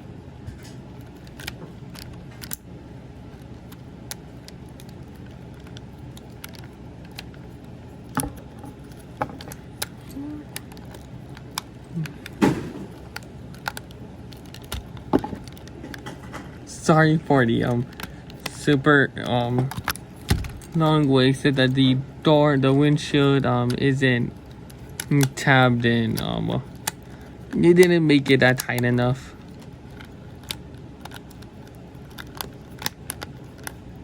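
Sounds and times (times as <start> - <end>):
steady background hum: 0.0 - 34.0
plastic parts clicking and rattling: 0.5 - 2.6, 3.3 - 16.6, 17.4 - 21.9, 22.5 - 34.0.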